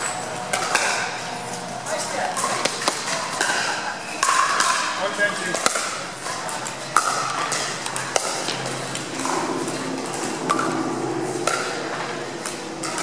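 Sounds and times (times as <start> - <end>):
faint voices murmuring: 0.0 - 13.0.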